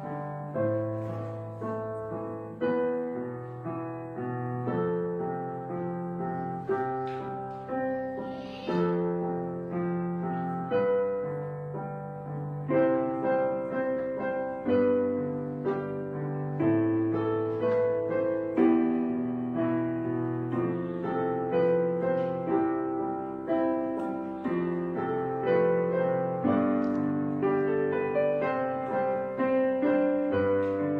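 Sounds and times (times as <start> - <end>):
soft piano music: 0.0 - 30.9.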